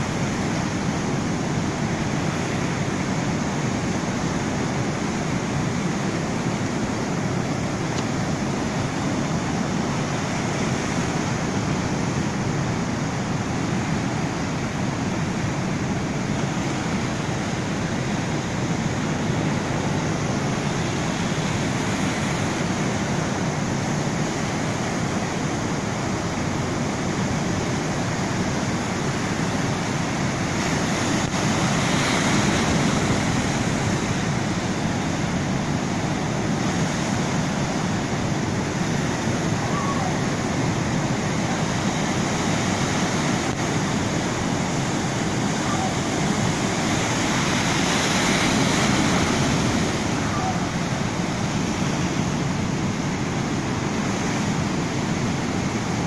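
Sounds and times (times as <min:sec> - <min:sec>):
ocean waves breaking: 0:00.0 - 0:56.0
water rushing over shallows: 0:00.0 - 0:56.0.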